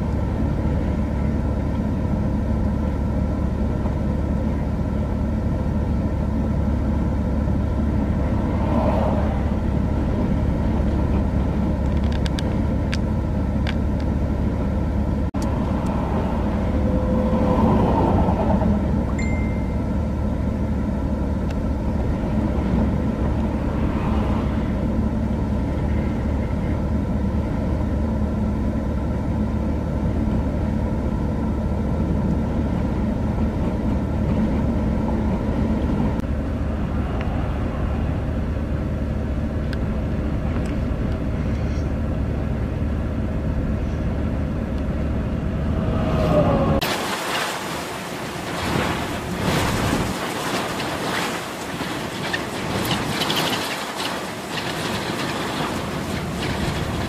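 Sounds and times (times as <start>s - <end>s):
highway traffic passing: 0.0s - 57.0s
semi truck passing: 0.0s - 57.0s.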